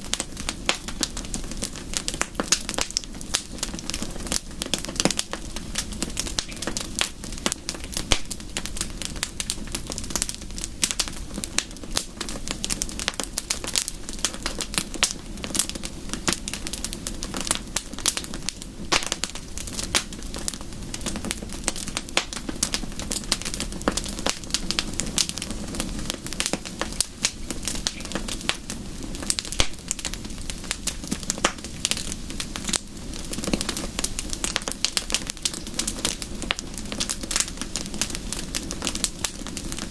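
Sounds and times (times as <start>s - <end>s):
low hiss and rumble: 0.0s - 39.9s
wood fire crackling: 0.0s - 39.9s.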